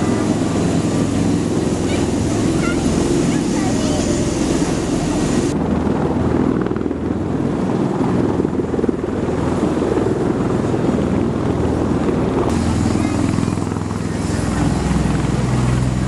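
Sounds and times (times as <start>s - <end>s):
aircraft rotor throb: 0.0s - 16.0s.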